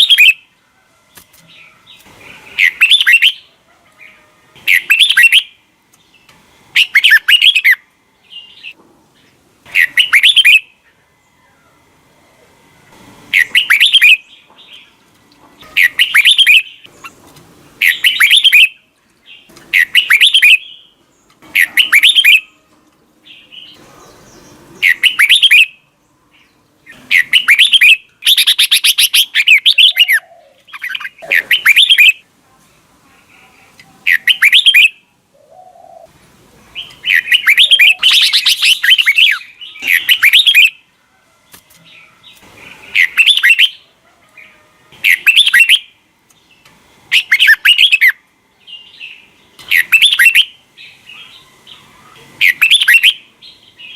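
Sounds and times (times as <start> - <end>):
bulbul singing: 0.0 - 0.5, 1.1 - 11.5, 13.3 - 15.0, 15.6 - 32.3, 33.6 - 36.1, 36.7 - 40.9, 41.8 - 53.9.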